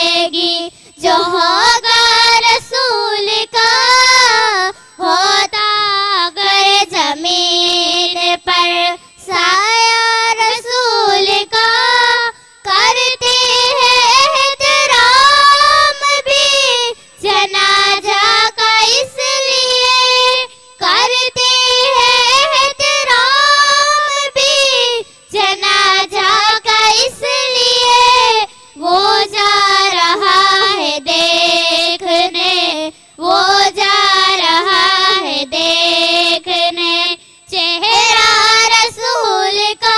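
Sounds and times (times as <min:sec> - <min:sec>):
girls singing devotional song: 0:00.0 - 0:39.9.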